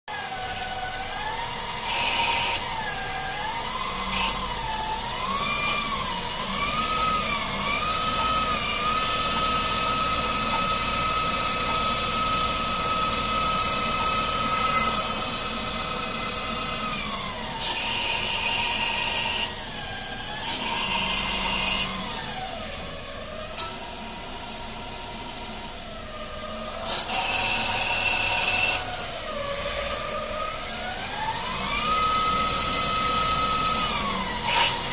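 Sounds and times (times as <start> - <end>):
motor whine rising and falling: 0.2 - 34.9.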